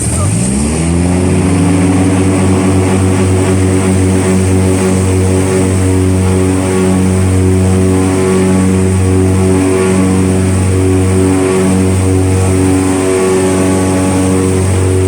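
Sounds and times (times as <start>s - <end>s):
airboat engine and propeller: 0.0s - 15.0s.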